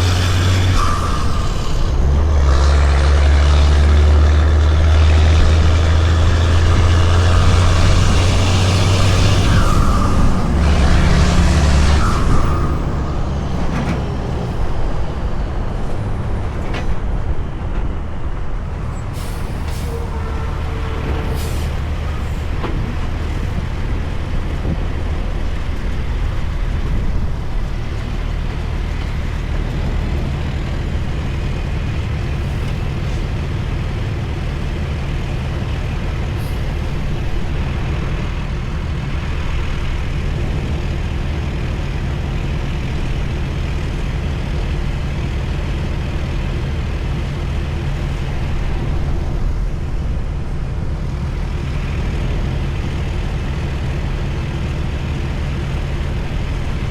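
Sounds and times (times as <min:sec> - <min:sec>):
diesel truck engine: 0:00.0 - 0:56.9
road noise: 0:00.0 - 0:56.9.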